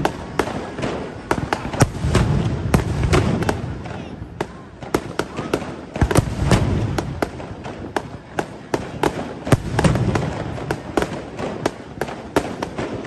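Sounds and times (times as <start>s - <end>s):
booms of bursting shells: 0.0s - 13.0s
fireworks cracking and popping: 0.0s - 13.0s.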